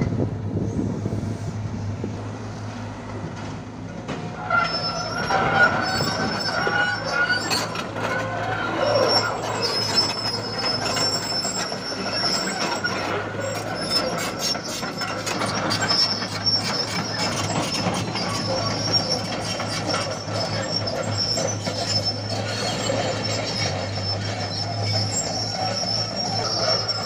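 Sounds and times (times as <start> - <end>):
excavator engine humming: 0.0 - 27.0.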